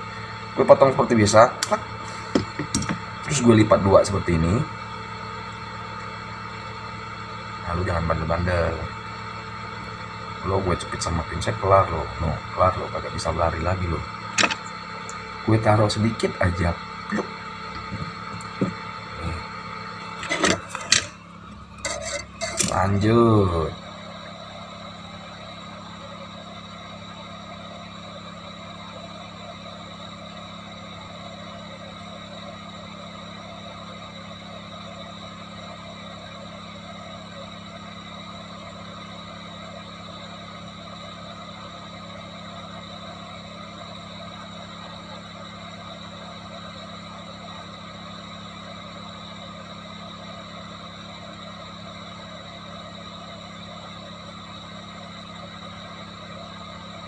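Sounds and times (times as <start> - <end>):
electric fan whirring: 0.0 - 57.0.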